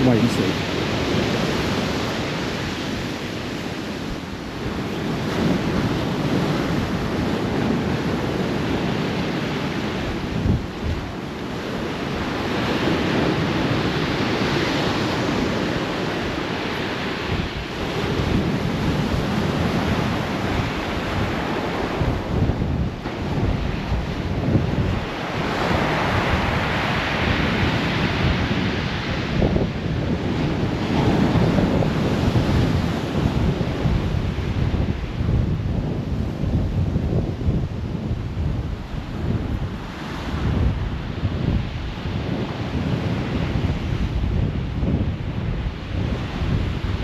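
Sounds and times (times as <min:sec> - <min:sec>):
sea surf breaking: 0:00.0 - 0:47.0
wind buffeting microphone: 0:00.0 - 0:47.0.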